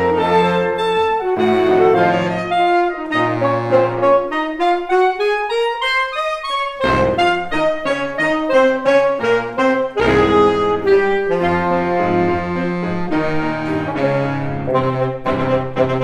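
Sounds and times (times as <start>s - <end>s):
saxophone ensemble playing chords: 0.0s - 16.0s.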